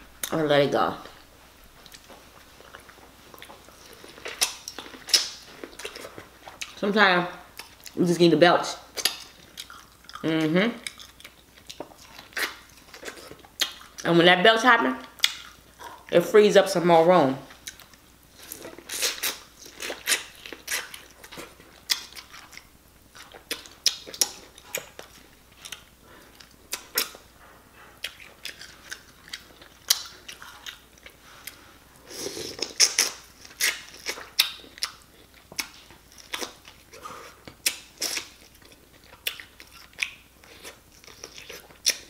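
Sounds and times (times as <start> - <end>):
person biting and chewing corn: 1.8 - 6.8, 8.9 - 14.0, 17.5 - 27.3, 28.0 - 42.0.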